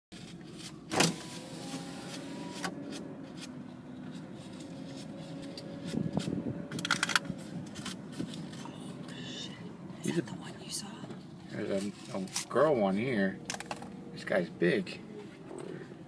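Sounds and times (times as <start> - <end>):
car engine and tyre rumble: 0.1 - 16.0.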